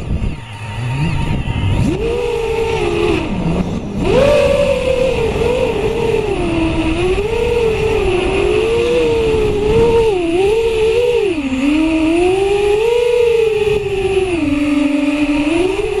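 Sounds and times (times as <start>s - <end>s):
drone motors whining: 0.0s - 16.0s
wind on microphone: 0.0s - 16.0s.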